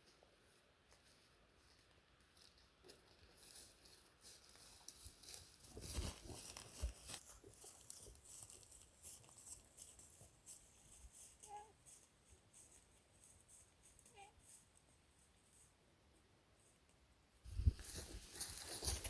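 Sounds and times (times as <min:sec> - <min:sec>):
faint rustling and crackling: 0:00.0 - 0:15.8, 0:17.6 - 0:19.0.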